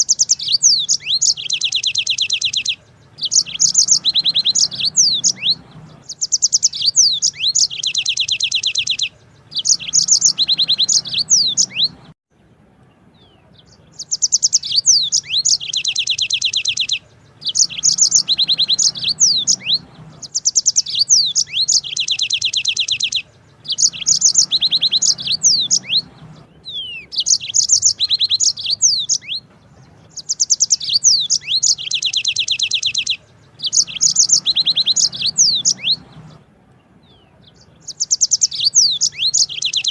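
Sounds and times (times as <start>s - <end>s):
canary singing fast trills: 0.0s - 12.2s, 12.9s - 39.9s.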